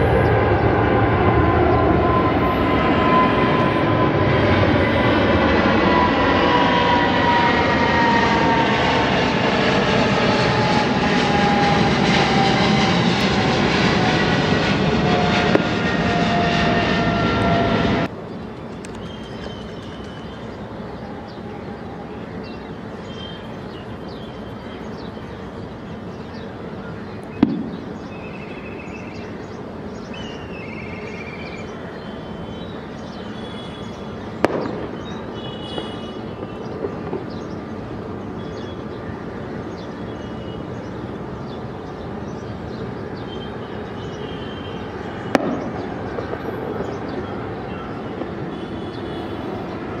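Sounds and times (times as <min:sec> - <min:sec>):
distant airport hum: 0:00.0 - 0:50.0
jet engine roar with whine: 0:00.0 - 0:50.0.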